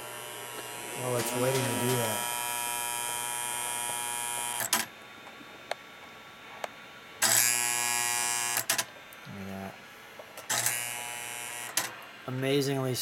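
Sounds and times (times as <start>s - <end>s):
electric hum of toy accessory: 0.0s - 6.0s, 6.6s - 9.7s, 10.3s - 12.2s.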